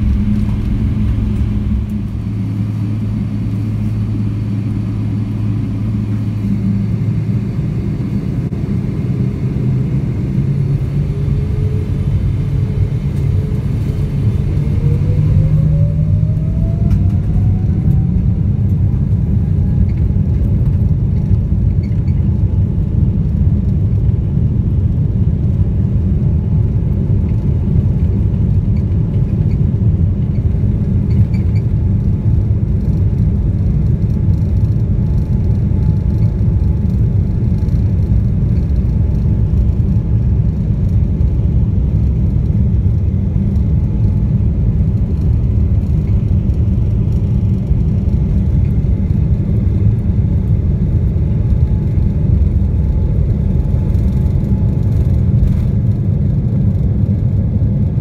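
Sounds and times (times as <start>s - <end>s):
airplane cabin rumble taxiing: 0.0s - 58.0s.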